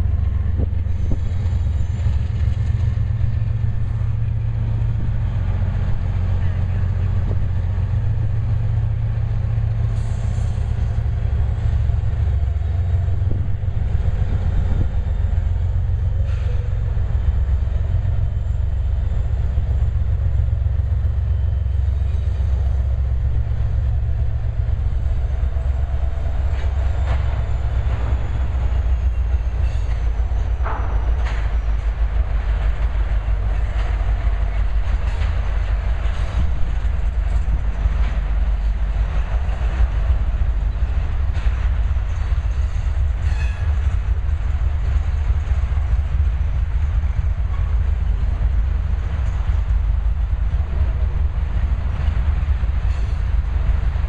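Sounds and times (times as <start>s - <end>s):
diesel locomotive engines rumbling: 0.0s - 54.0s
train wheels clicking over rail joints: 0.0s - 54.0s.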